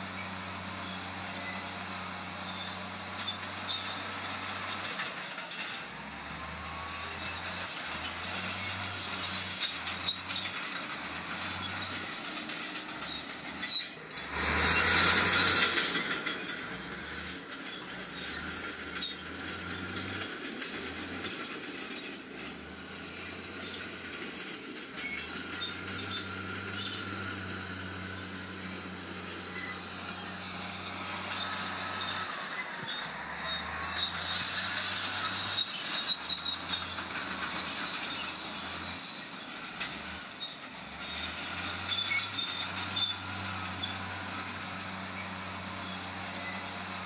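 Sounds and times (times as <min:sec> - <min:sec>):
bulldozer engine running: 0:00.0 - 0:47.0
steel tracks clanking and squeaking: 0:00.0 - 0:47.0.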